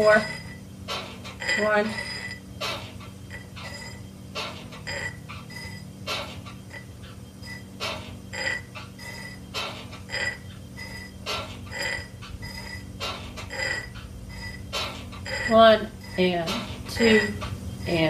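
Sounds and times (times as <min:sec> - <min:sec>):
pottery wheel motor hum: 0:00.0 - 0:18.0.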